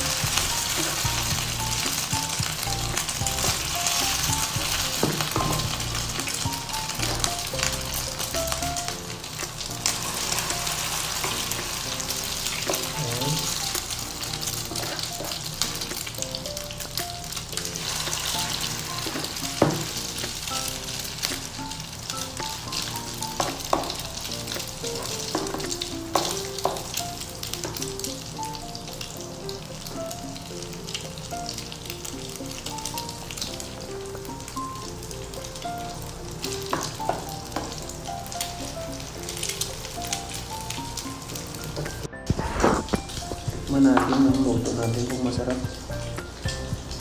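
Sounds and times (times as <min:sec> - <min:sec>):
food sizzling in oil: 0:00.0 - 0:47.0.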